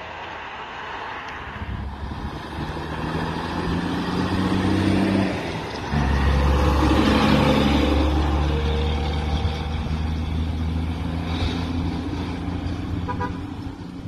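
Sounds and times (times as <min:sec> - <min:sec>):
truck diesel engine passing: 0:00.0 - 0:14.0.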